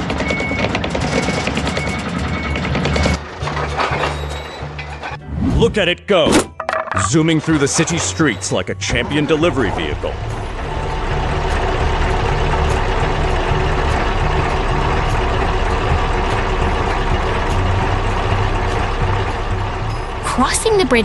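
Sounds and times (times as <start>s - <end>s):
heavy truck engine running: 0.0s - 5.3s, 7.5s - 21.0s.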